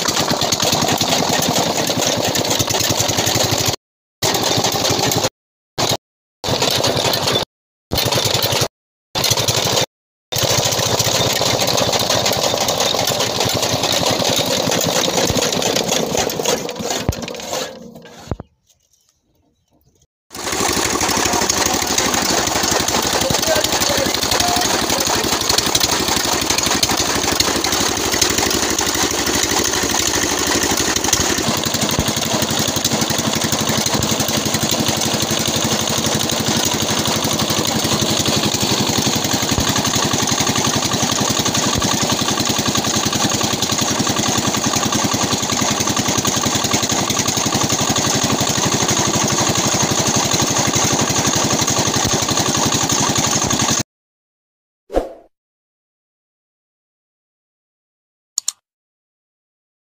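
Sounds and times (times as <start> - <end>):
diesel engine knocking: 0.0 - 5.3, 8.0 - 17.4, 20.4 - 53.8
chaff cutter chopping fodder: 0.0 - 18.5, 20.3 - 53.8.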